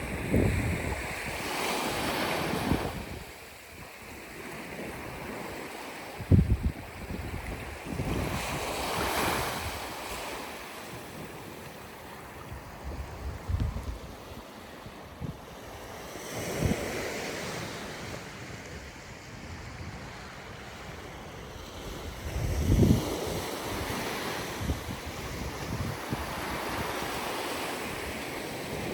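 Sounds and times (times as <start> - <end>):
wind buffeting microphone: 0.0 - 3.9, 6.2 - 28.9
sea waves washing ashore: 0.0 - 28.9.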